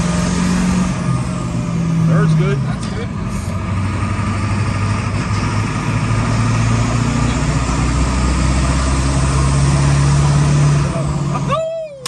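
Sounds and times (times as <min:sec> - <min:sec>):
pickup truck engine: 0:00.0 - 0:12.0
road noise inside cab: 0:00.0 - 0:12.0.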